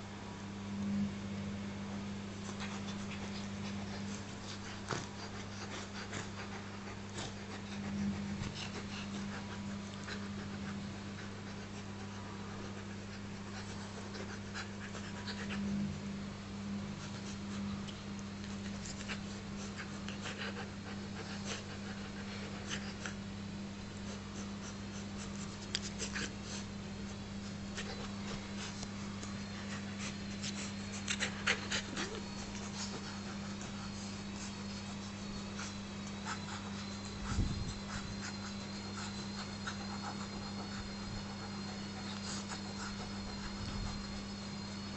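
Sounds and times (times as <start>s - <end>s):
steady low hum: 0.0s - 44.9s
dog panting: 2.3s - 16.0s, 16.9s - 44.9s.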